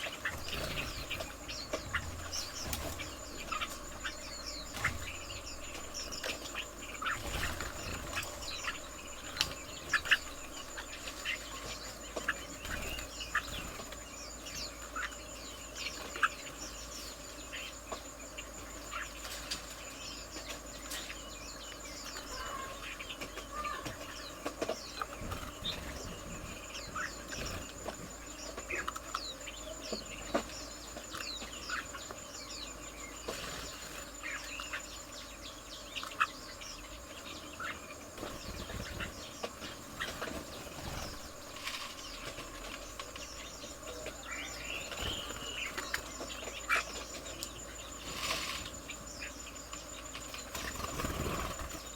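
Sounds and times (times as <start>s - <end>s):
birds chirping and calling: 0.0s - 51.9s
high thin insect-like buzz: 0.0s - 51.9s.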